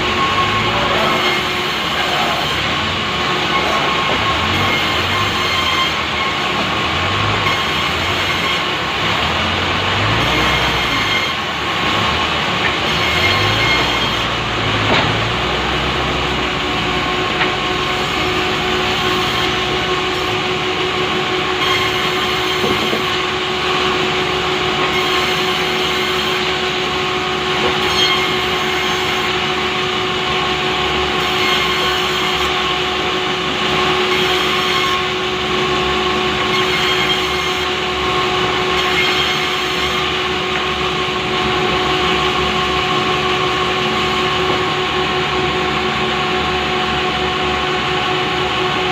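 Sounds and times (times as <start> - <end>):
engine saw cutting log: 0.0 - 48.9.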